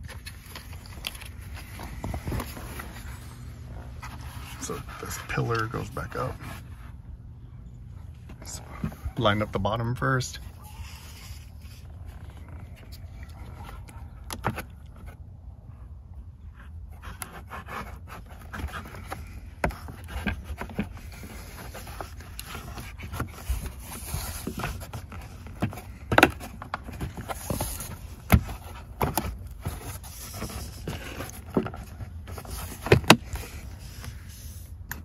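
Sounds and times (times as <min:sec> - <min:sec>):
plastic rubbing and scraping: 0:00.0 - 0:07.1, 0:10.4 - 0:15.3, 0:16.8 - 0:35.0.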